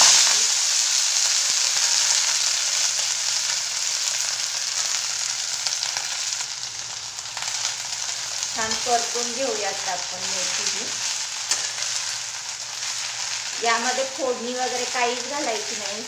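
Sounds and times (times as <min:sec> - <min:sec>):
leaves sizzling in hot oil: 0:00.0 - 0:16.0.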